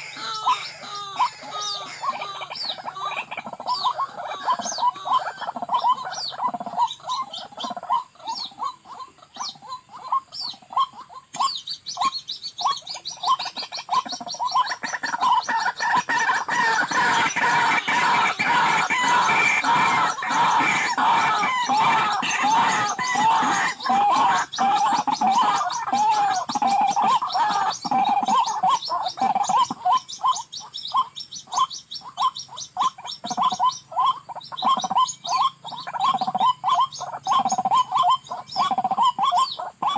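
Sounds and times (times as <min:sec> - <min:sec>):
waterhens calling: 0:00.0 - 0:39.9.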